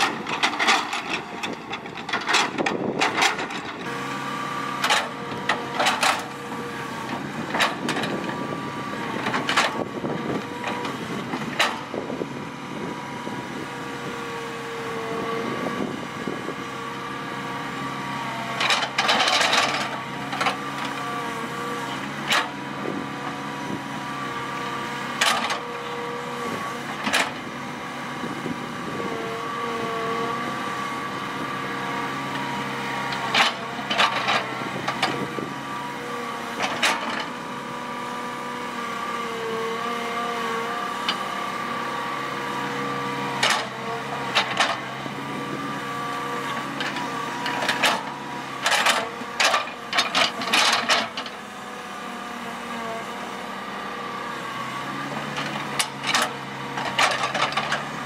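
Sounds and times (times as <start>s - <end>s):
excavator engine droning: 0.0s - 58.0s.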